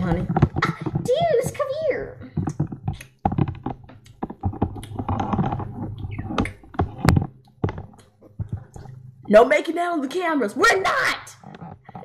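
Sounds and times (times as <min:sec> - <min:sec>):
dolls clicking and rustling: 0:00.0 - 0:12.0.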